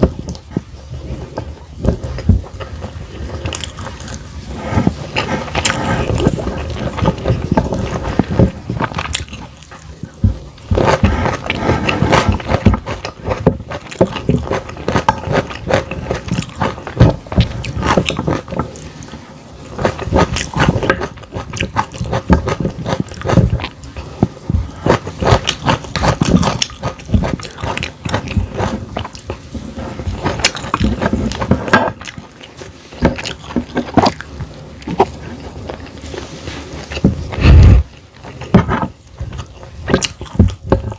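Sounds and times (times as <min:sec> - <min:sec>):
chewing crunchy vegetables: 0:00.0 - 0:40.9.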